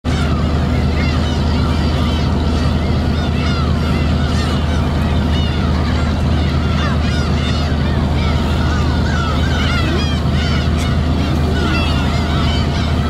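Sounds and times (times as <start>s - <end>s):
boat engine humming: 0.0s - 13.0s
gulls calling: 0.0s - 13.0s.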